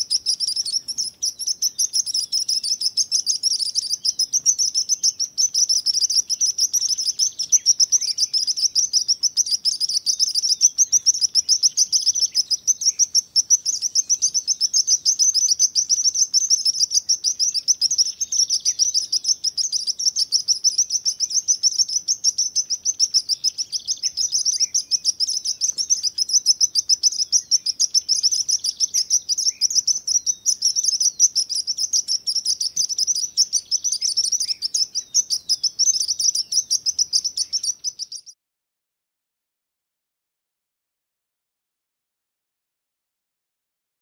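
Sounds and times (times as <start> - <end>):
sparrow chirping: 0.0 - 38.4.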